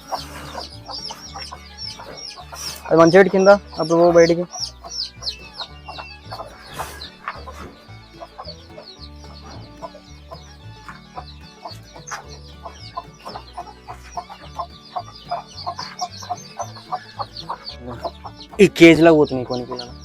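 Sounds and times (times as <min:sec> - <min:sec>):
background music with low bass: 0:00.0 - 0:20.0
chicks peeping: 0:00.0 - 0:20.0.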